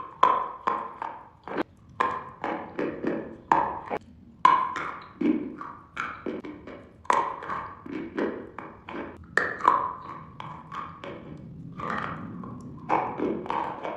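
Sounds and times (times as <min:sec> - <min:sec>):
hard candy crunching: 0:00.0 - 0:13.9.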